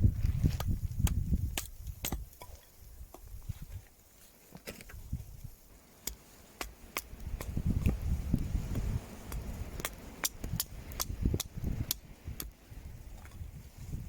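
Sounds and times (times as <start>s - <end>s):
wood fire crackling and popping: 0.0s - 13.8s.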